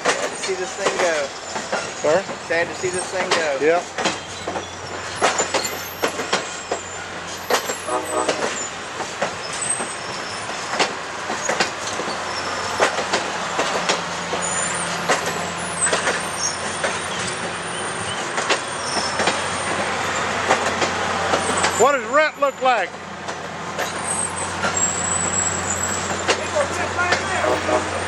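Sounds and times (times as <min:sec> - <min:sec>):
wheels and couplers clanking: 0:00.0 - 0:27.7
train rumbling past: 0:00.0 - 0:28.0
faint high wheel squeals: 0:00.4 - 0:12.8, 0:13.8 - 0:20.3, 0:23.8 - 0:27.8.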